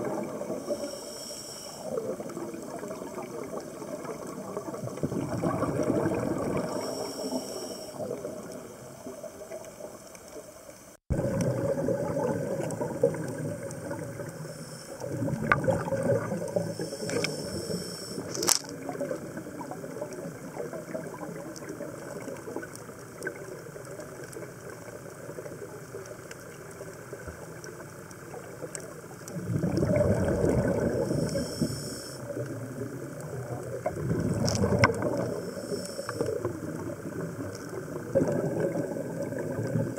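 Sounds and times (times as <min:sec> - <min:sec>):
faint regulator hiss: 0:00.0 - 0:05.0, 0:06.5 - 0:11.0, 0:12.6 - 0:29.4, 0:30.5 - 0:39.9
regulator bubbling exhaust underwater: 0:00.0 - 0:10.1, 0:11.0 - 0:39.9.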